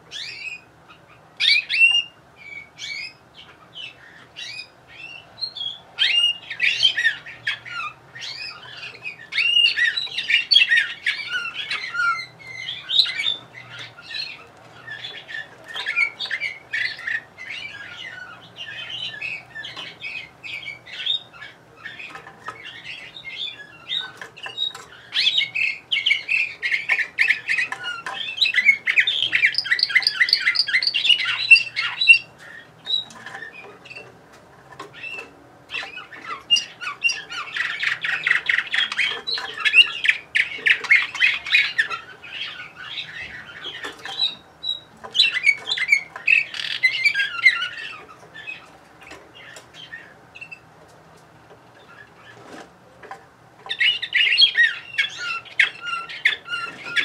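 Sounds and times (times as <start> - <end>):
canary singing trills: 0.0 - 50.9, 51.5 - 57.0.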